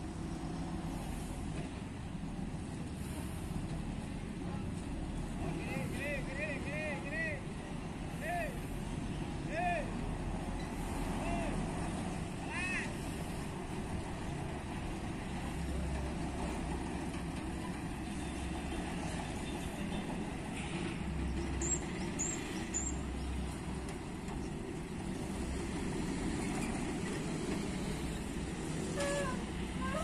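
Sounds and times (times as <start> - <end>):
truck diesel engine rumbling: 0.0 - 30.0.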